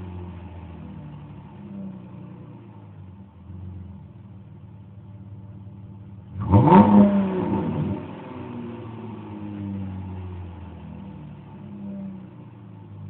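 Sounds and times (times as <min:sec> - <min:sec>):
car exhaust idling and revving: 0:00.0 - 0:13.0.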